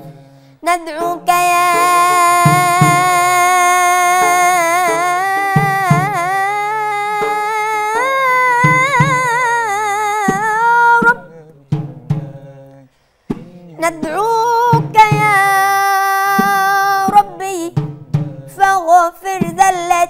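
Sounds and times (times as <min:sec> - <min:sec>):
boy chanting: 0:00.0 - 0:20.0.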